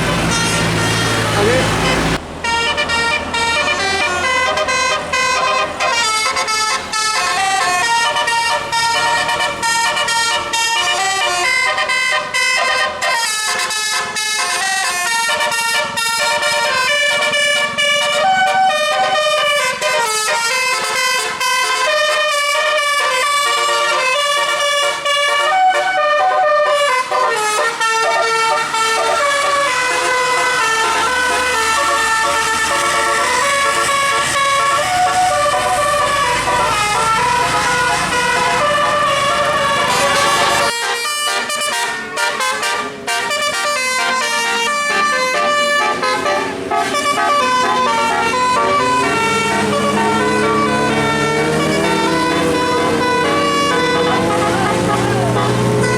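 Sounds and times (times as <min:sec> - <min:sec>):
musical air horn melody: 0:00.0 - 0:55.9.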